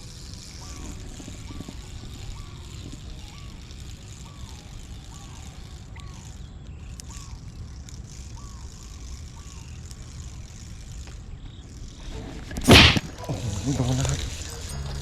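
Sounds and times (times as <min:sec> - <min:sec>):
faint chirps: 0:00.0 - 0:15.0.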